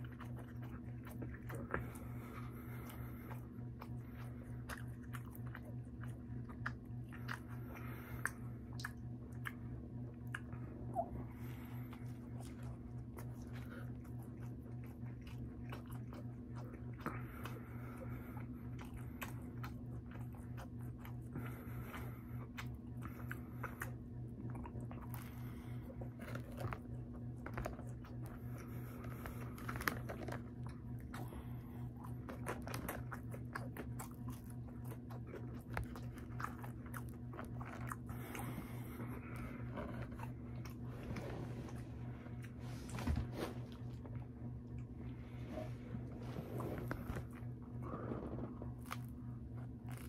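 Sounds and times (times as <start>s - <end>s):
person chewing food: 0.0s - 50.0s
steady low hum: 0.0s - 50.0s.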